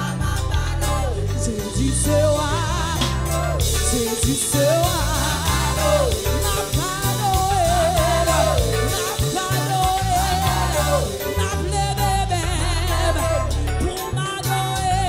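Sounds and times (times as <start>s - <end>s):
bass guitar: 0.0s - 15.0s
drums: 0.0s - 15.0s
woman singing with vibrato: 0.0s - 15.0s.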